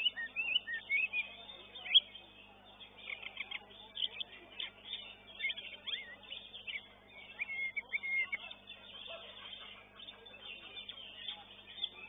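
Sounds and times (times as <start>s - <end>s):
birds singing and chattering: 0.0s - 12.0s.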